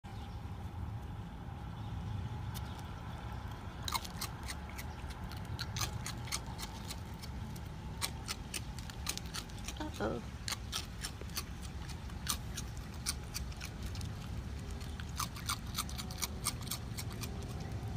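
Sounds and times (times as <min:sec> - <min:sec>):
steady low hum: 0:00.1 - 0:17.9
raccoon crunching cereal: 0:02.5 - 0:17.9.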